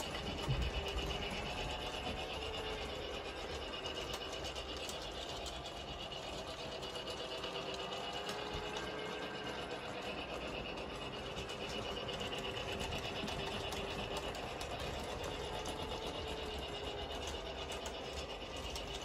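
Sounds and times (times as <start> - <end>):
toy train motor whir: 0.0 - 19.0
wheels clicking on rails: 0.0 - 19.0.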